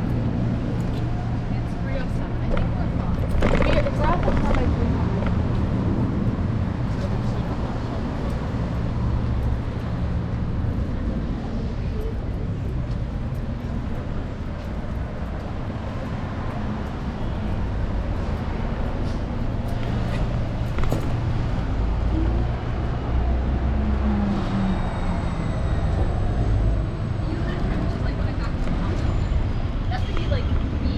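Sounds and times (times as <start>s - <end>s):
city street traffic: 0.0s - 30.9s.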